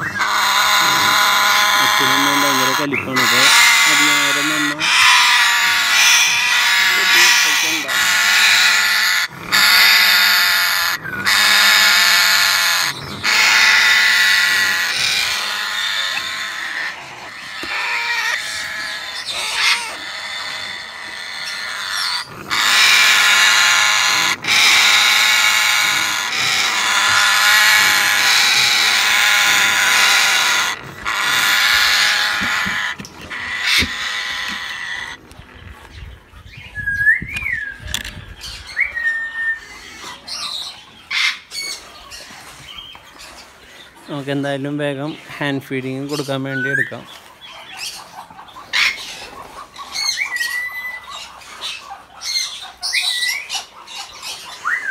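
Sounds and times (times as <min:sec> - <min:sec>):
parrots screeching: 0:00.0 - 0:36.0, 0:37.4 - 0:54.9.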